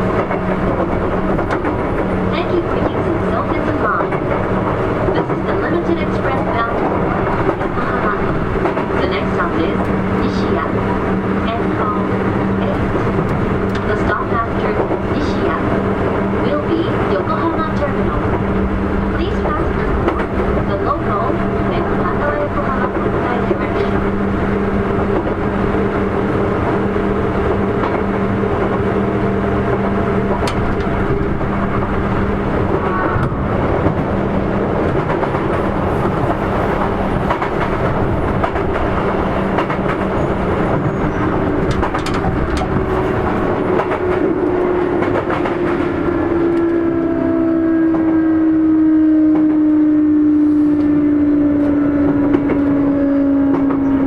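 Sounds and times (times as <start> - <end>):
train motor hum: 0.0 - 54.0.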